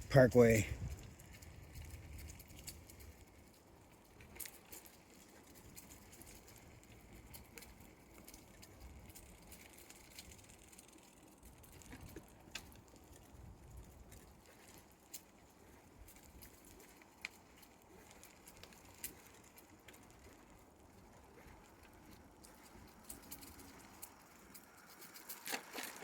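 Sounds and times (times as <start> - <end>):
light ticks and rustles: 0.0 - 26.0.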